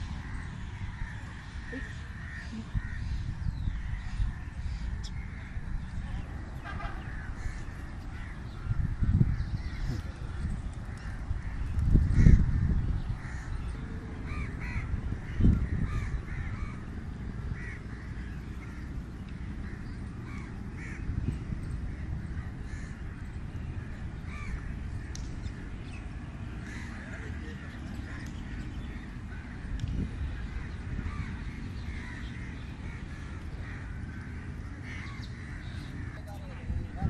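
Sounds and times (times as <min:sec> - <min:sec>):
birds calling: 0:00.0 - 0:37.0.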